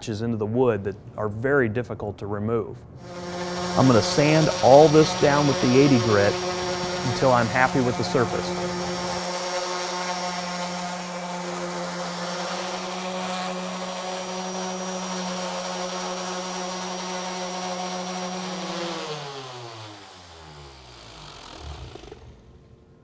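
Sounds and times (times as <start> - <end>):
orbital sander sanding wood: 3.0 - 22.6
motor winding down: 3.0 - 22.9.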